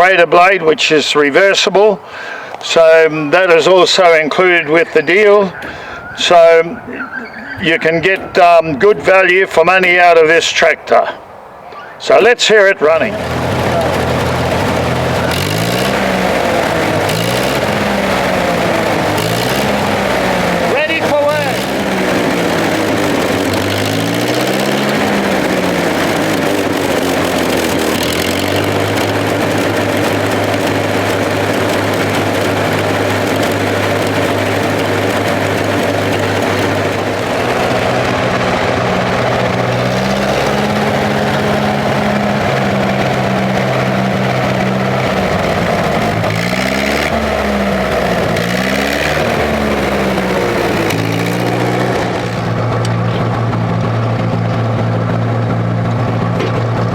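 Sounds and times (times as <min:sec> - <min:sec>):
tractor engine revving: 0:00.0 - 0:56.9.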